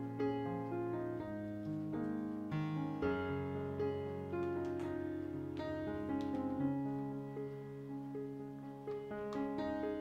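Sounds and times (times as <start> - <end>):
background piano music: 0.0 - 10.0.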